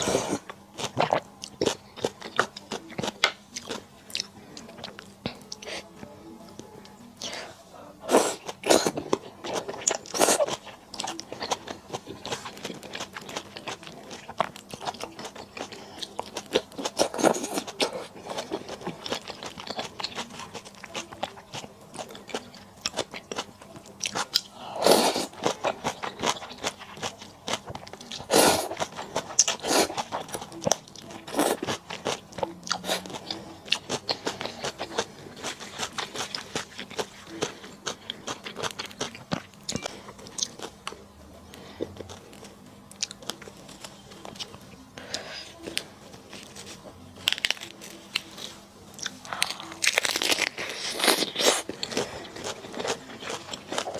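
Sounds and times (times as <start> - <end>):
person chewing crunchy food: 0.0 - 5.8, 8.0 - 53.9.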